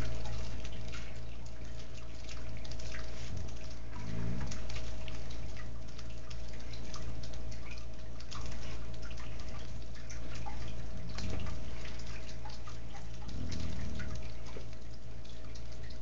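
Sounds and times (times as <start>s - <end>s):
dog licking fur: 0.0s - 15.9s
steady low hum: 0.0s - 16.0s.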